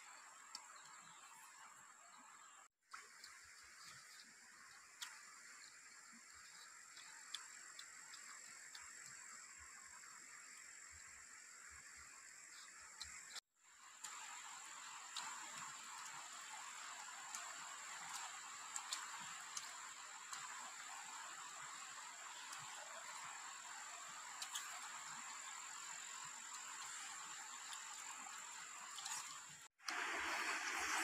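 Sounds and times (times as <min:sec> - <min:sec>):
chorus of insects: 0:00.0 - 0:31.0.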